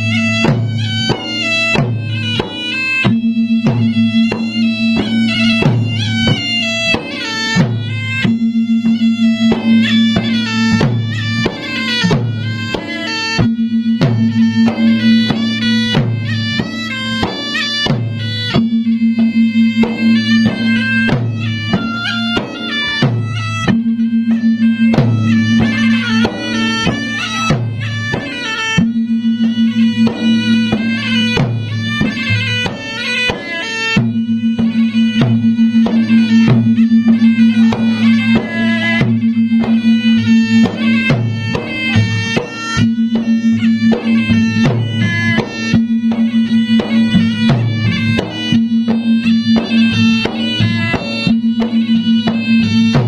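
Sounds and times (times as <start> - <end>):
drums beating fast rhythm: 0.0 - 53.0
high stepped melody: 0.0 - 53.0.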